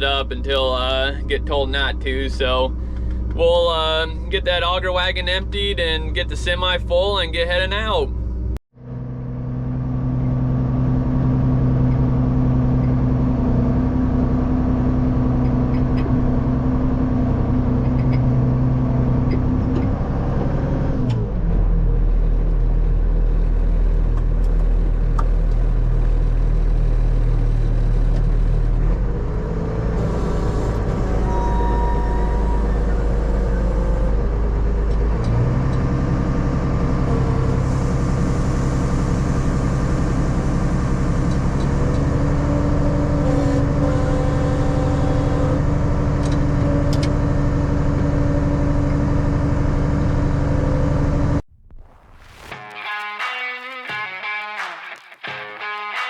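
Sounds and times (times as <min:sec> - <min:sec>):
tractor engine running: 0:00.0 - 0:31.5, 0:32.4 - 0:52.8.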